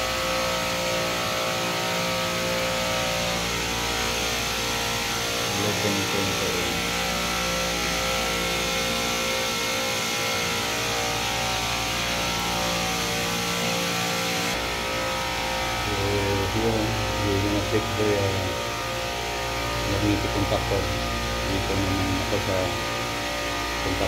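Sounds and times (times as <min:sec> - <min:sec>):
refrigeration compressors humming: 0:00.0 - 0:24.0.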